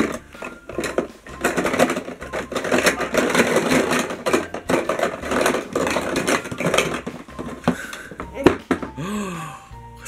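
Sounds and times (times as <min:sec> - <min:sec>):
plastic blocks rattling: 0:00.0 - 0:09.0.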